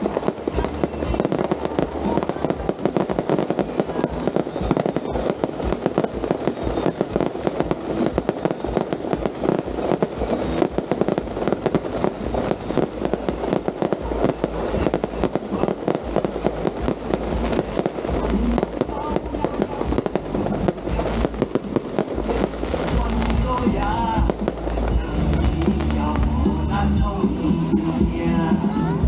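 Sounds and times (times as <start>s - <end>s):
fireworks and firecrackers: 0.0s - 29.0s.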